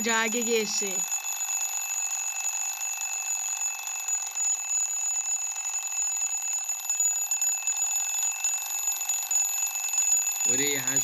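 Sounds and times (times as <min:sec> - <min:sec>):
alarm clock bells ringing: 0:00.0 - 0:11.0.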